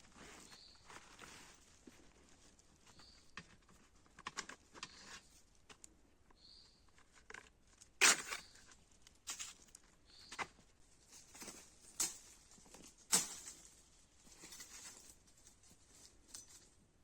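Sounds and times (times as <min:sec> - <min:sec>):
twigs and leaves rustling: 0:00.0 - 0:05.8, 0:06.9 - 0:16.8.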